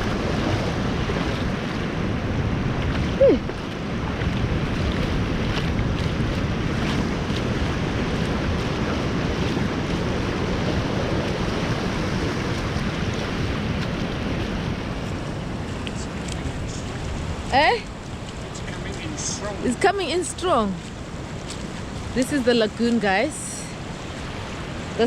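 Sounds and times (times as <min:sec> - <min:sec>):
surf and rushing water: 0:00.0 - 0:25.0
wind buffeting microphone: 0:00.0 - 0:25.0.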